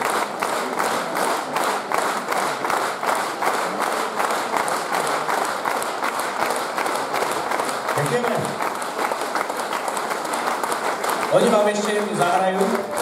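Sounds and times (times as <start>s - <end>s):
audience clapping in unison: 0.0s - 13.0s.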